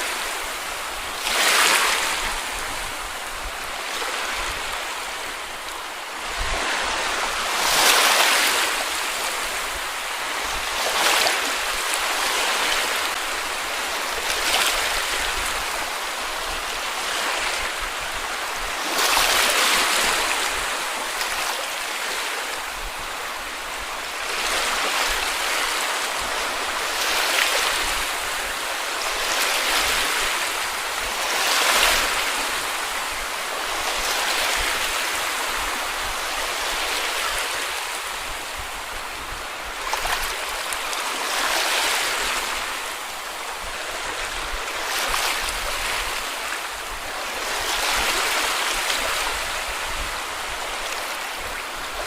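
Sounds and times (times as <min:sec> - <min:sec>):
sea waves washing onto beach: 0:00.0 - 0:52.0.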